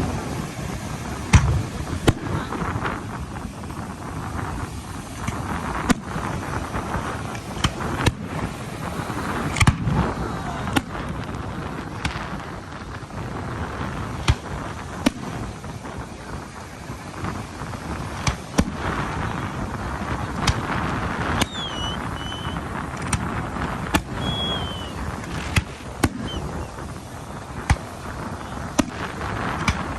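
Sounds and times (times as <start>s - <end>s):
fireworks bangs: 0.0s - 29.9s
noisy background: 0.0s - 29.9s.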